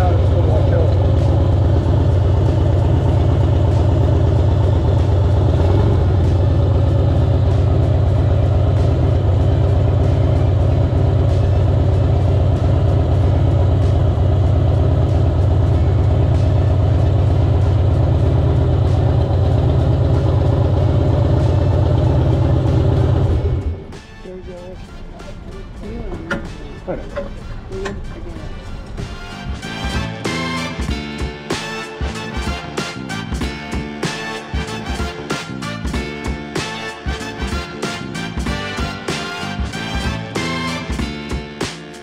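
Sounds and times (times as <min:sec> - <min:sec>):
vehicle engine droning: 0:00.0 - 0:41.6.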